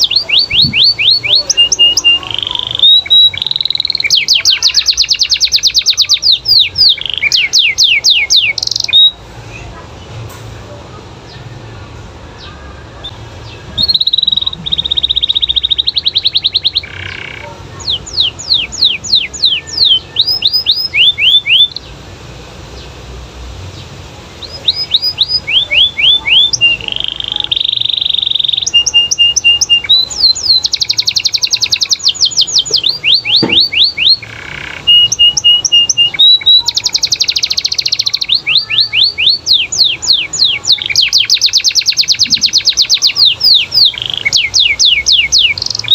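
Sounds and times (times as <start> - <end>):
canary singing: 0.0 - 10.1, 11.2 - 23.0, 23.7 - 45.9.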